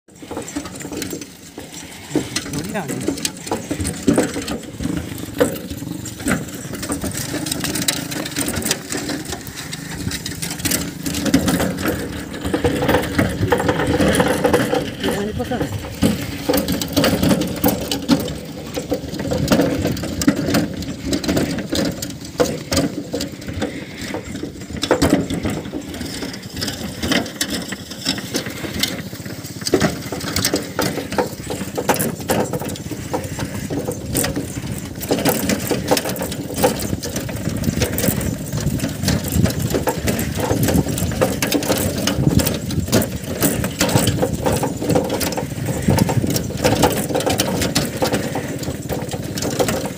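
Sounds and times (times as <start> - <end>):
wooden cart rattling and clattering: 0.1 - 49.9.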